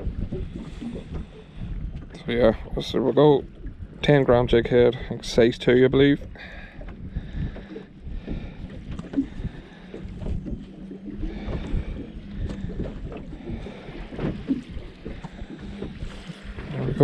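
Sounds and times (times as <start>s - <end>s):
steady low hum: 0.0s - 17.0s
waves lapping against boat hull: 0.0s - 17.0s
wind buffeting microphone: 0.0s - 17.0s.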